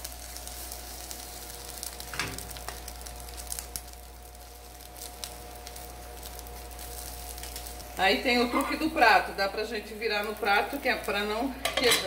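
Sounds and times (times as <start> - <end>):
omelette sizzling in a pan: 0.0 - 12.0.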